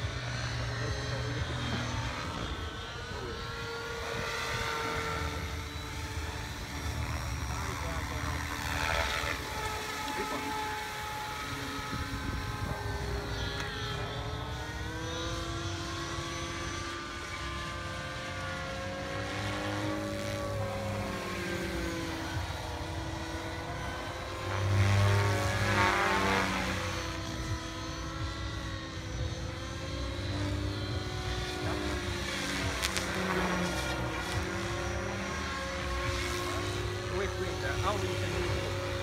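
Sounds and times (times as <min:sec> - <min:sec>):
model helicopter flying overhead: 0:00.0 - 0:39.0.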